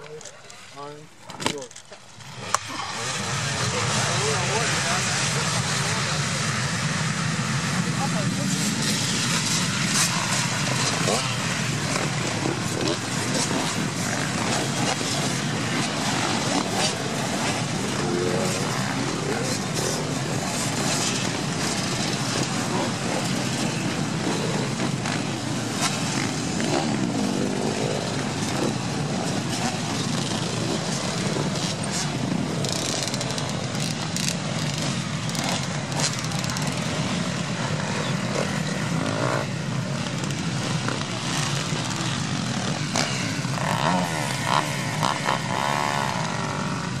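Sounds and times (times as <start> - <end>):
many dirt bike engines: 0.0 - 47.0
single dirt bike revving: 2.2 - 47.0.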